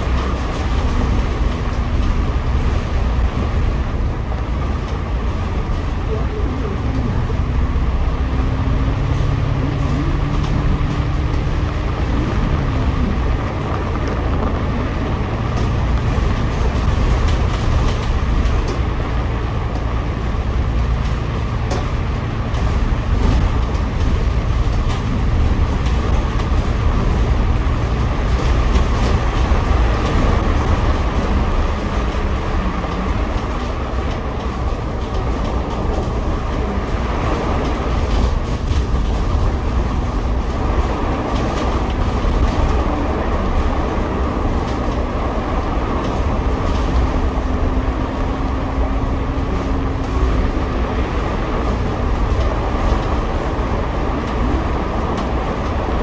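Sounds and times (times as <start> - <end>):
bus engine and tyres rumbling: 0.0 - 56.0.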